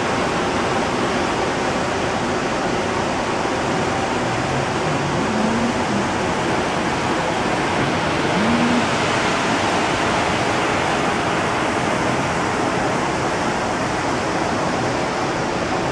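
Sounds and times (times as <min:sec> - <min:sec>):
water rushing: 0:00.0 - 0:15.9.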